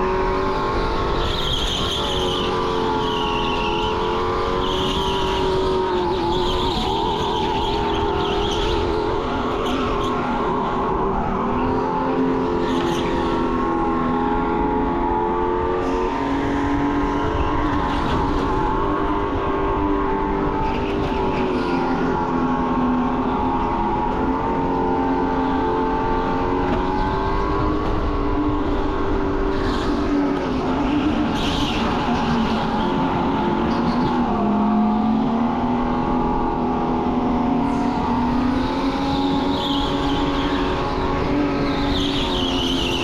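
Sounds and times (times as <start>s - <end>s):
tires squealing: 0.0s - 43.0s.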